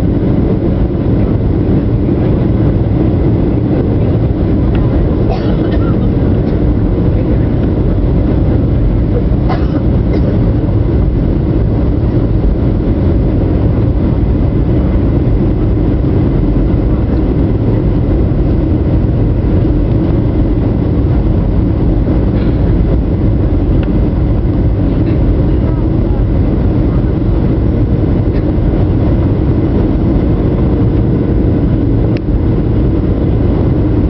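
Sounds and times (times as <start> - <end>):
jet engines rumbling: 0.0 - 34.0
rushing air: 0.0 - 34.0.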